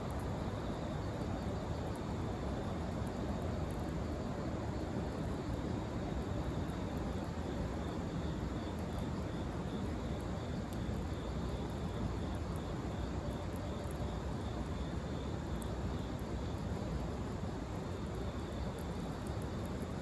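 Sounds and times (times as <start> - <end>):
fire crackles: 0.0 - 20.0.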